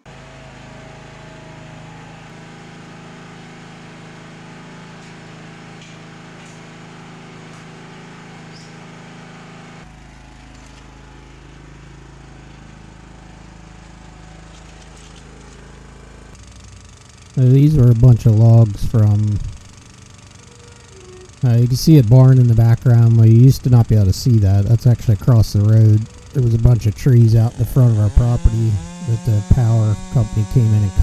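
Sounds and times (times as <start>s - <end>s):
small gas engine running: 0.0s - 31.0s.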